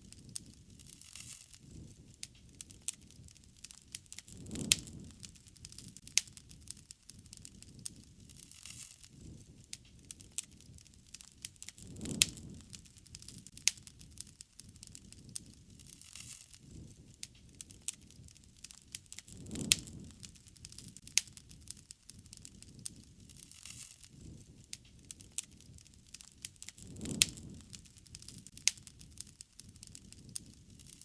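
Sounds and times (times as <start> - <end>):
rush of flame: 0.0 - 31.0
wood fire crackling: 0.0 - 31.0.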